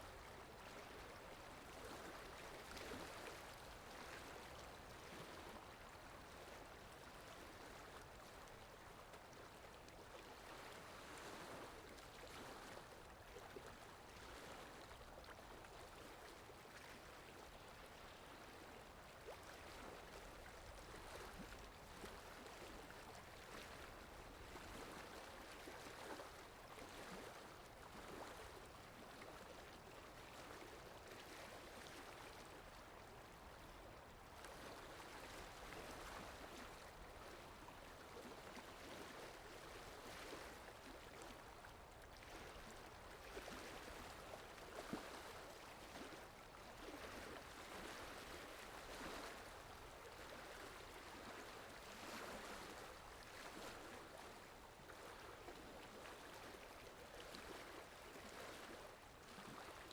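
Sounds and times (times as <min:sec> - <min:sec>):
faint flowing stream: 0:00.0 - 0:59.9.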